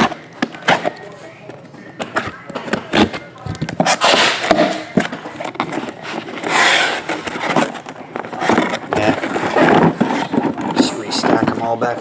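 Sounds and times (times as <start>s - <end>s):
cardboard scraping: 2.0s - 12.0s.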